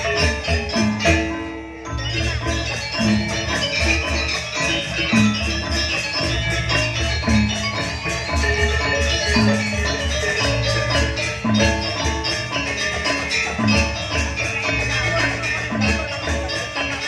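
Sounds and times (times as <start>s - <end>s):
drums: 0.0s - 17.0s
metallophones ringing: 0.0s - 17.0s.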